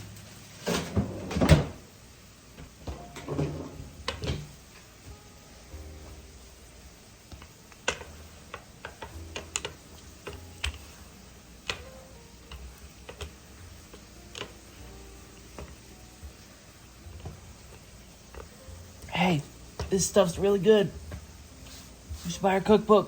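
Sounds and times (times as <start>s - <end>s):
faint low background: 0.0s - 23.0s.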